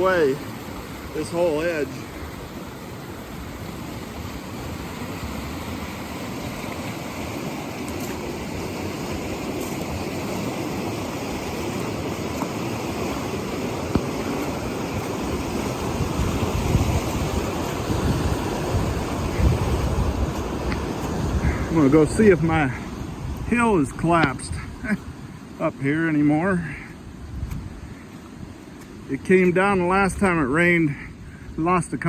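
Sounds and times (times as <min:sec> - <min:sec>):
creek rushing in flood: 0:00.0 - 0:32.0.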